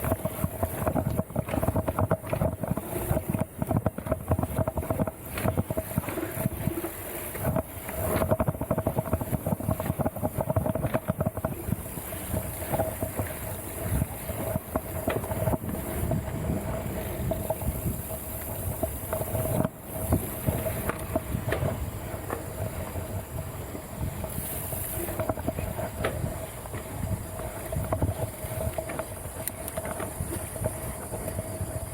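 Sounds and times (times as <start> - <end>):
mountain bike rattling on trail: 0.0 - 31.9
wind on microphone: 0.0 - 31.9.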